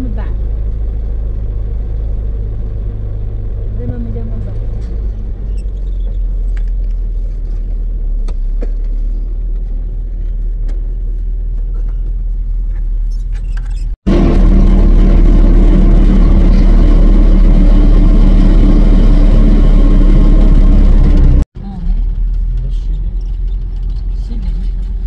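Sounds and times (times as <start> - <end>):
close engine hum: 0.0 - 25.0
vehicle engine rumbling: 0.0 - 25.0.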